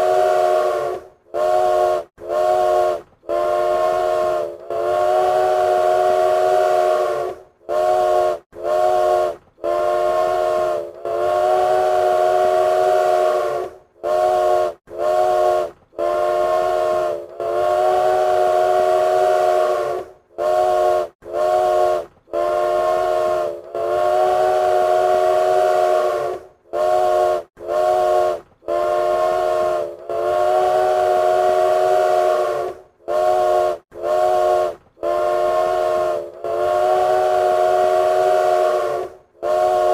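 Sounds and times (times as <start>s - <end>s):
train whistle toots and blasts: 0.0s - 39.9s.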